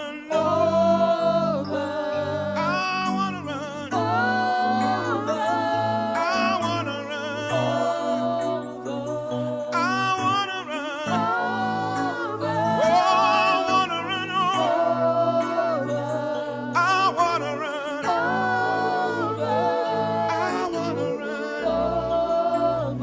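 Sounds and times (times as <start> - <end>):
singers holding long notes: 0.0 - 23.0
sustained accompanying chords: 0.0 - 23.0.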